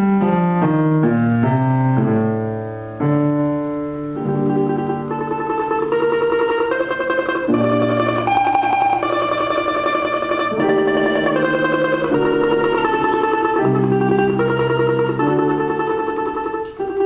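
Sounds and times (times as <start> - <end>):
plucked string instrument folk melody: 2.9 - 17.0.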